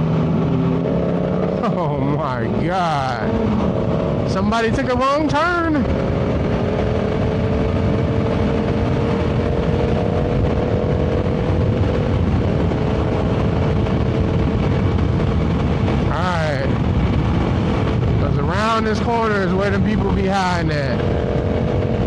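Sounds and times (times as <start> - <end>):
heavy wind rush: 0.0 - 22.0
motorcycle engine cruising: 0.0 - 22.0.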